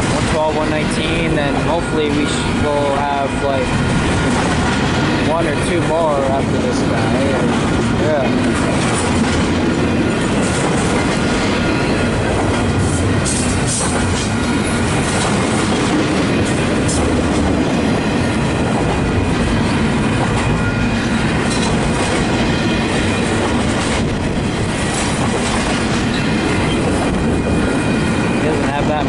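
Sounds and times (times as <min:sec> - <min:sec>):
freight train wheels clacking: 0:00.0 - 0:29.0.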